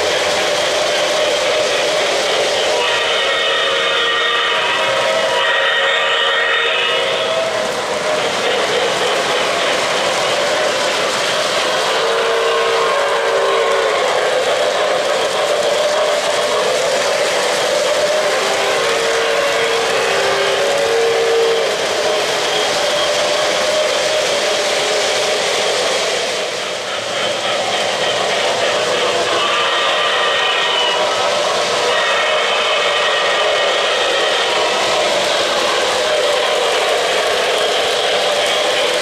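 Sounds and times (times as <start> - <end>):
model train steam whistle: 0.0 - 26.8, 27.8 - 39.0
model train rolling on track: 0.0 - 39.0.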